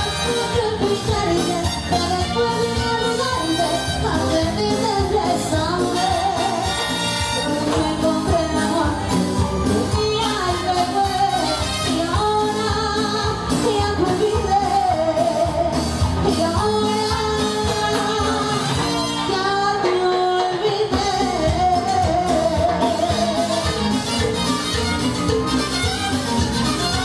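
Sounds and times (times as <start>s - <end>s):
woman singing into a microphone: 0.0s - 24.4s
drums: 0.0s - 27.0s
live band playing: 0.0s - 27.0s.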